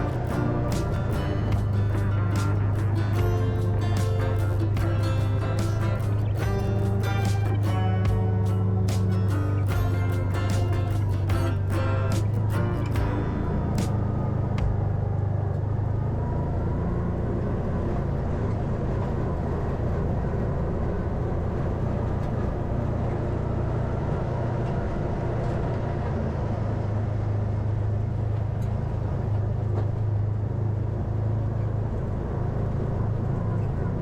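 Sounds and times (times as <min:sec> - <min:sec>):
utility vehicle engine droning: 0:00.0 - 0:34.0.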